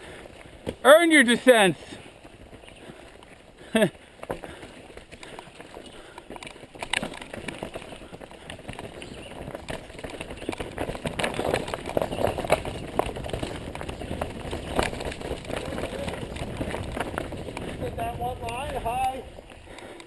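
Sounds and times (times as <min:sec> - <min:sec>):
bike tyres rushing over rock: 0:00.0 - 0:20.0
wheels knocking on rocks: 0:00.2 - 0:20.0.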